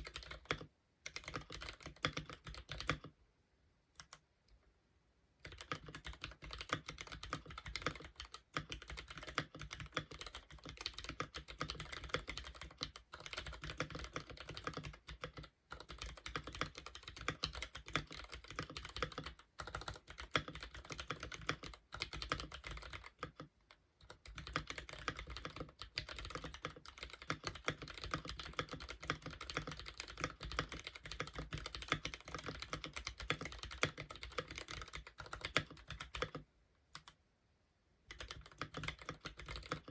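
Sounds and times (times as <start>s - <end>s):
mechanical keyboard typing: 0.0s - 3.1s, 5.4s - 37.2s, 38.1s - 39.9s.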